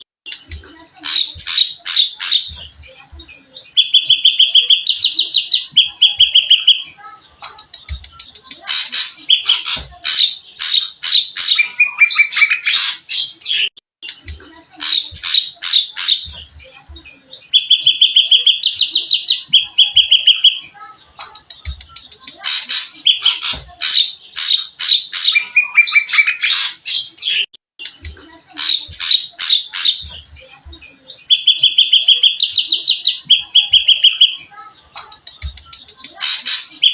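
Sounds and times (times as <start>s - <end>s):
songbird chattering and trilling: 0.3s - 36.9s.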